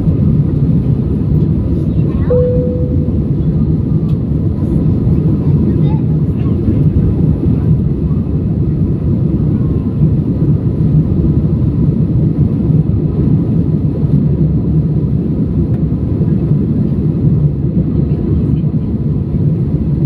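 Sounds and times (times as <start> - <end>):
airliner engine rumble in cabin: 0.0 - 20.0.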